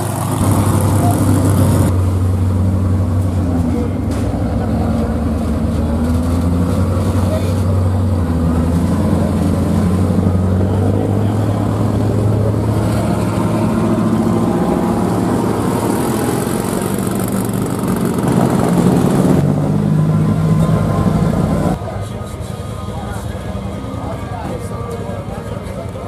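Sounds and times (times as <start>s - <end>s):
off-road vehicle engines passing: 0.0s - 26.0s.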